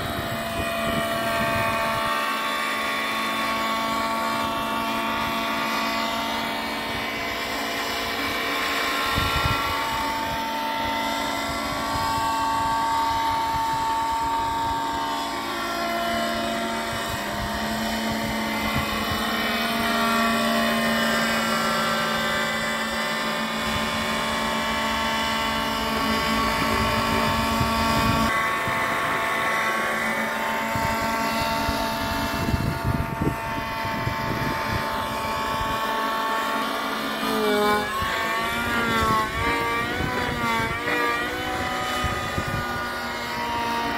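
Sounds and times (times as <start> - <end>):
model helicopter engine and rotors: 0.0 - 43.9.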